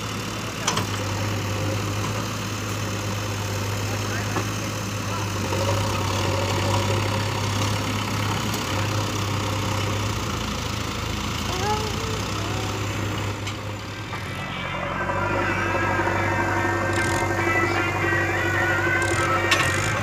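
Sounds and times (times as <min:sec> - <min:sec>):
diesel engines running: 0:00.0 - 0:20.0.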